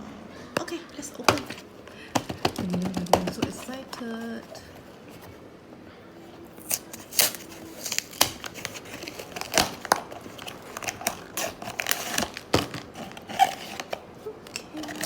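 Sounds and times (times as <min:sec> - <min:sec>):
plastic and foil wrapping crinkling: 0:00.8 - 0:05.4, 0:06.2 - 0:15.0.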